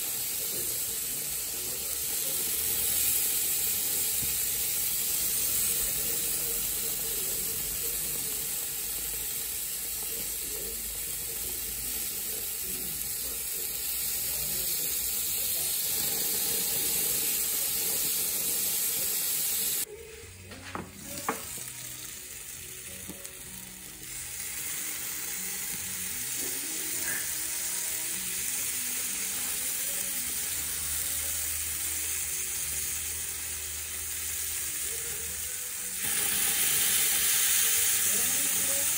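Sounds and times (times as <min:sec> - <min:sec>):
meat sizzling on a grill: 0:00.0 - 0:20.0, 0:20.7 - 0:38.9.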